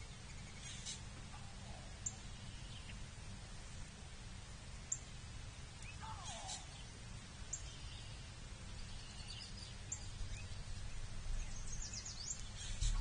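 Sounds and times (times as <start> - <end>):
distant bird calls: 0.0 - 3.5, 4.7 - 13.0
low steady rumble: 0.0 - 13.0.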